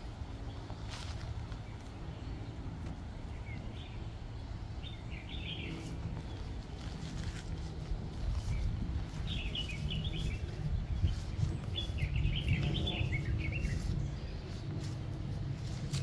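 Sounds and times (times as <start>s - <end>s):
songbirds twittering: 0.0s - 16.0s
steady low rumble: 0.0s - 16.0s.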